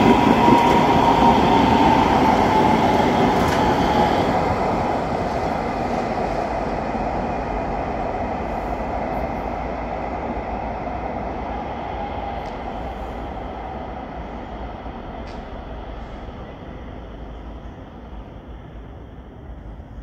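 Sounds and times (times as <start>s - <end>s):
tram high whine: 0.0s - 20.0s
tram passing: 0.0s - 20.0s.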